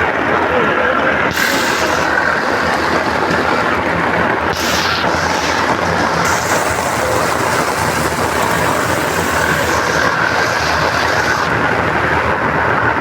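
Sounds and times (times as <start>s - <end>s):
heavy rain pouring: 1.3s - 12.3s.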